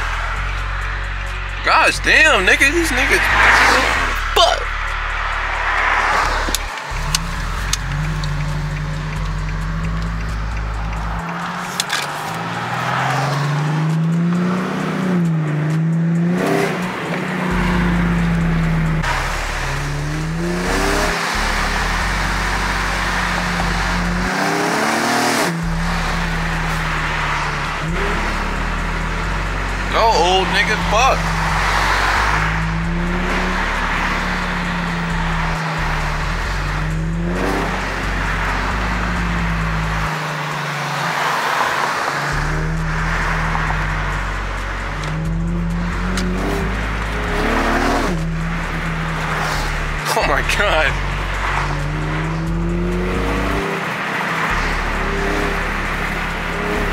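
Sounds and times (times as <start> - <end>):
car engine accelerating: 0.0 - 56.9
road noise: 0.0 - 56.9.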